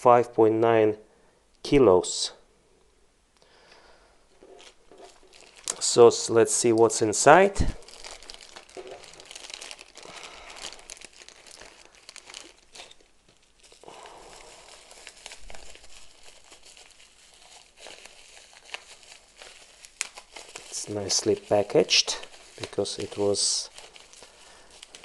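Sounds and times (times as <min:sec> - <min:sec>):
plastic packaging crinkling: 0:03.8 - 0:25.0.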